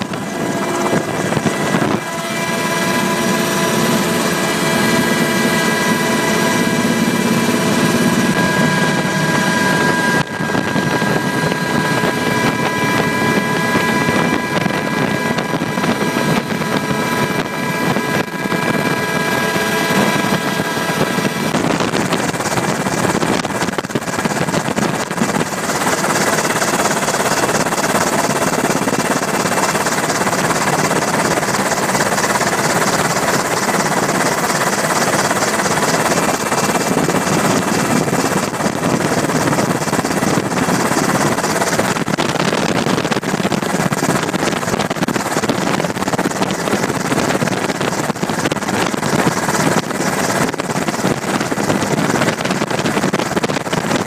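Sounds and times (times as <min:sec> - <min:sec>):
helicopter engines and rotor drone: 0:00.0 - 0:54.0.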